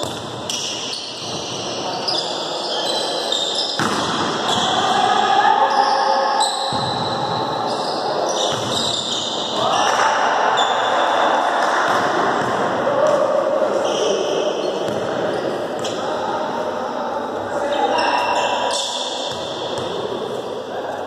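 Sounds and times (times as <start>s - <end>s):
players' voices: 0.0s - 21.0s.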